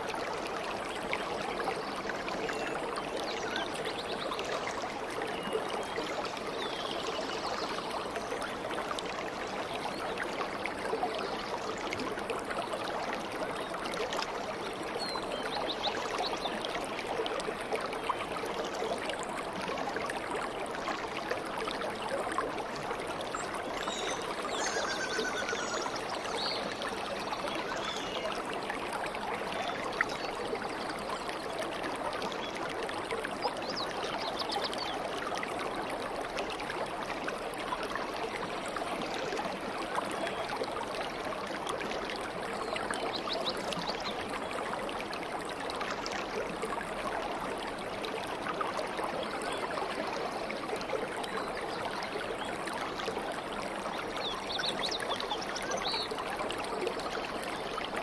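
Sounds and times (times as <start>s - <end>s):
stream of water flowing: 0.0s - 58.0s.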